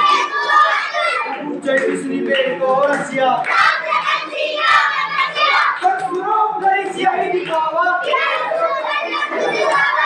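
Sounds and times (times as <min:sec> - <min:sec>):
children singing a chant: 0:00.0 - 0:02.3, 0:03.4 - 0:10.0.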